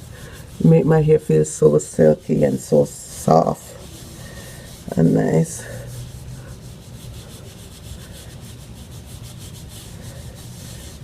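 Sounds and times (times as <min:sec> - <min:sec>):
hands rubbing hair: 0:00.0 - 0:11.0.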